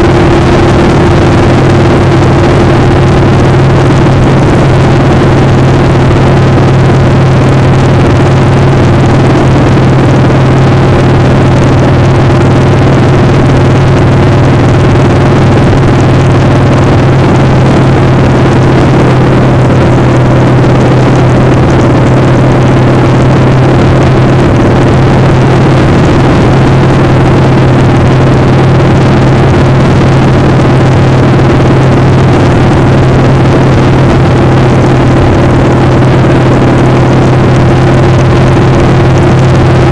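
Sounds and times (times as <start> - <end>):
broad rushing noise: 0.0 - 39.9
motorcycle engine running: 0.0 - 39.9.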